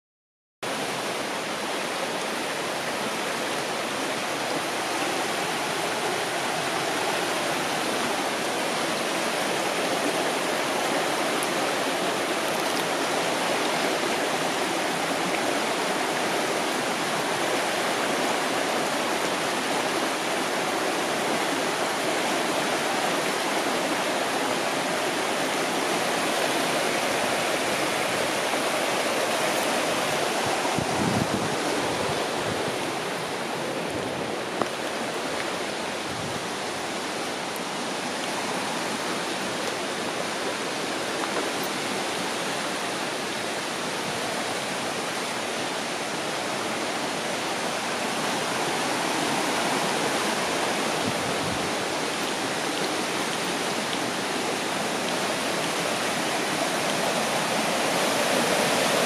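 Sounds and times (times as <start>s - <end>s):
river rushing over rocks: 0.6s - 59.0s.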